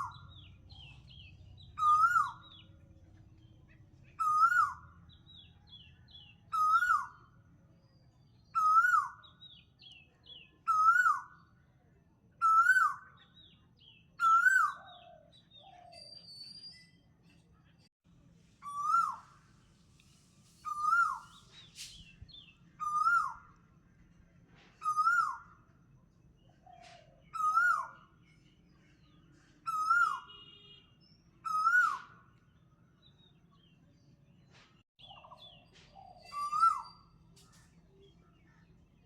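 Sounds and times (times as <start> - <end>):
faint chirps of other birds: 0.0 - 39.0.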